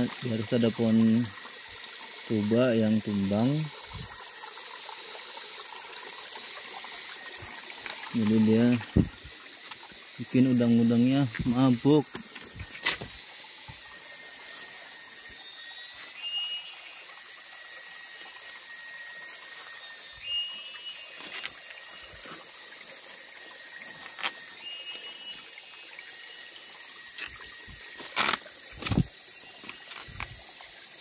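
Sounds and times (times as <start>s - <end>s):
river water running: 0.0s - 31.0s.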